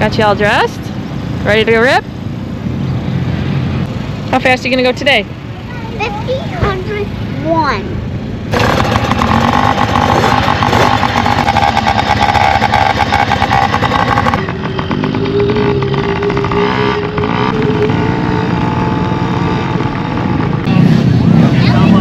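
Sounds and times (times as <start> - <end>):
dirt bike engines running: 0.0 - 22.0.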